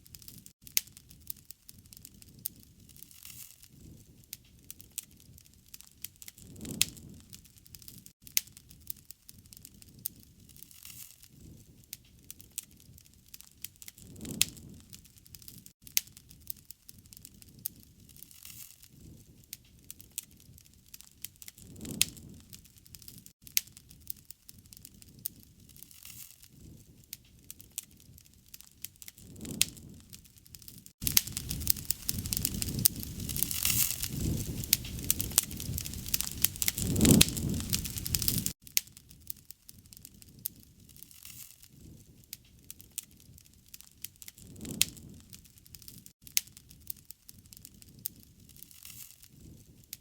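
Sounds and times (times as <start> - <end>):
wood fire crackling and popping: 0.0 - 50.0
rush of flame: 0.1 - 8.7, 9.4 - 16.3, 21.4 - 23.3, 24.1 - 38.6, 40.0 - 49.9.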